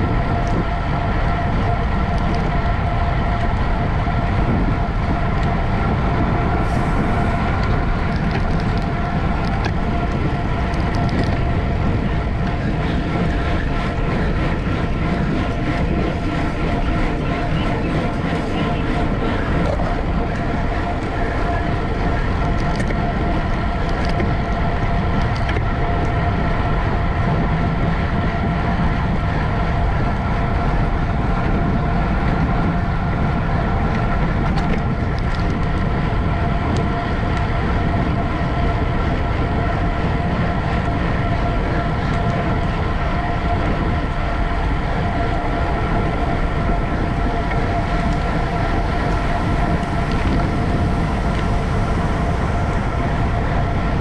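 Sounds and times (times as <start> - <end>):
constant whine: 0.0 - 54.0
wind and rolling rumble: 0.0 - 54.0.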